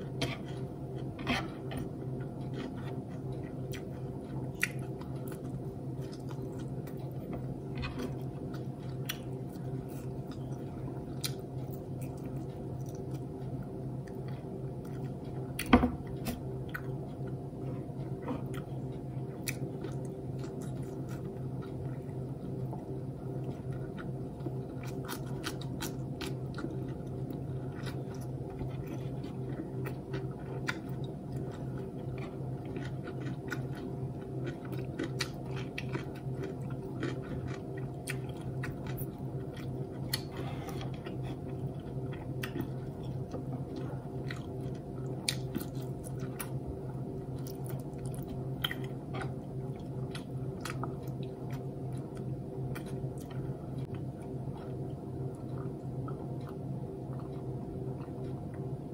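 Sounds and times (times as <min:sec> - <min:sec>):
steady low hum: 0:00.0 - 0:58.9
chewing and mouth clicks: 0:01.8 - 0:22.8, 0:23.4 - 0:58.7.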